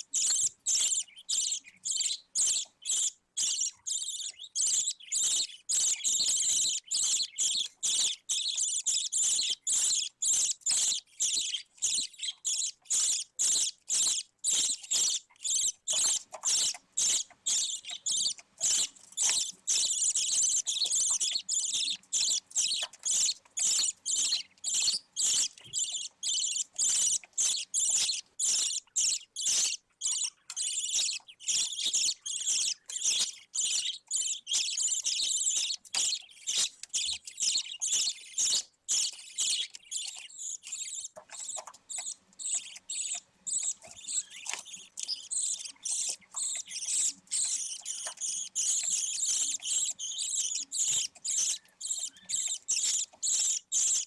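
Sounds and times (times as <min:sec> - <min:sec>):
budgerigar chicks chirping: 0:00.0 - 0:54.0.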